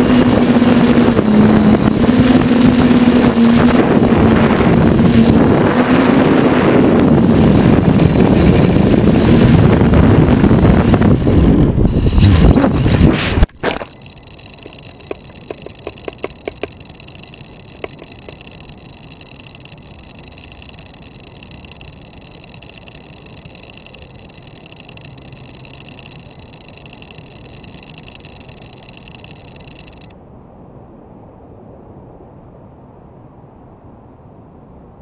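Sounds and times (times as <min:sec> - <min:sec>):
high-pitched electronic whine: 0:00.0 - 0:30.2.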